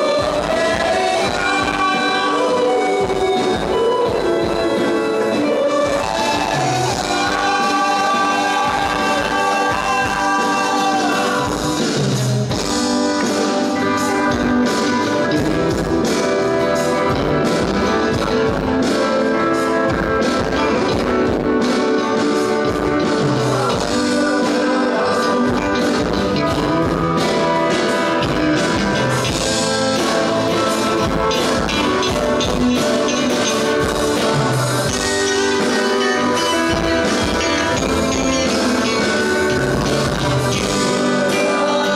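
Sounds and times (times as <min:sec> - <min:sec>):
drum kit: 0:00.0 - 0:41.9
electric guitars: 0:00.0 - 0:41.9
person singing: 0:00.0 - 0:41.9.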